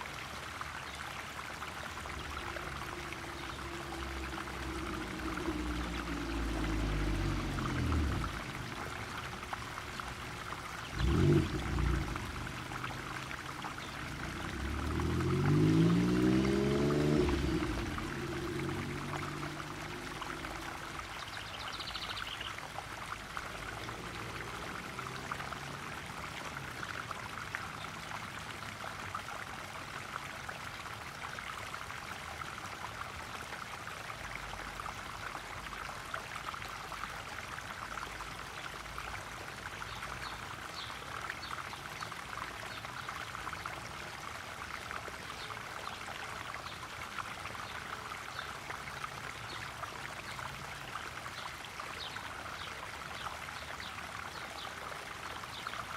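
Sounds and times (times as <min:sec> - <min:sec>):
waterfall splashing into pond: 0:00.0 - 0:55.9.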